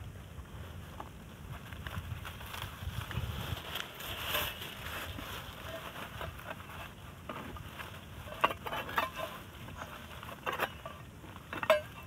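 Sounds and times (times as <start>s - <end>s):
dry grass and leaves rustling: 0.0s - 12.0s.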